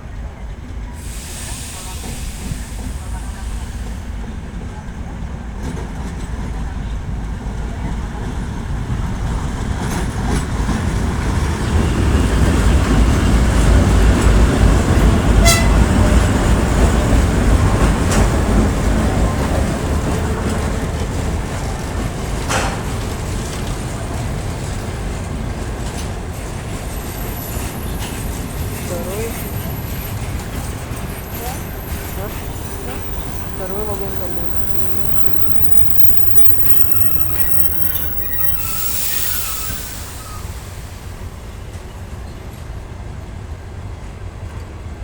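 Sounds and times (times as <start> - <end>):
diesel locomotive rumbling past: 0.0 - 45.0.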